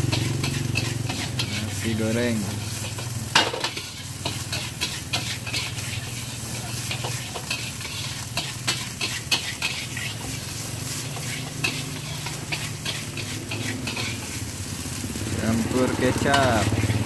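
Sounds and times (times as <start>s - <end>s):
metal spatula scraping a wok: 0.0s - 15.0s, 15.6s - 17.0s
food sizzling: 0.0s - 17.0s.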